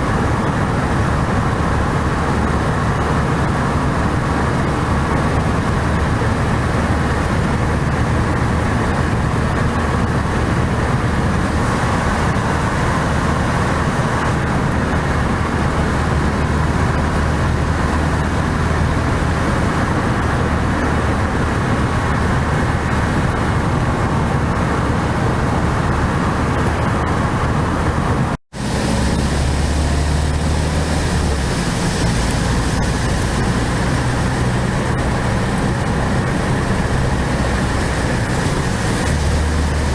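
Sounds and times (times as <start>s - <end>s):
car engine running: 0.0s - 39.9s
road and tyre noise: 0.0s - 39.9s.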